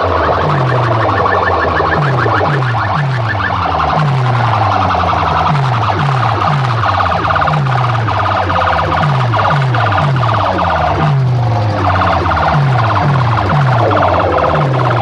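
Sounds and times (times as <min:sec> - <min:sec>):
deep bass notes: 0:00.0 - 0:15.0
electronic siren effect: 0:00.0 - 0:15.0.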